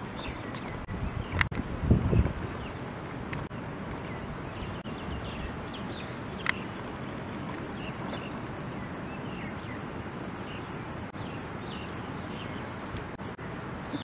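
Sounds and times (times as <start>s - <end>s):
outdoor background noise: 0.0s - 14.0s
small birds chirping: 0.0s - 14.0s.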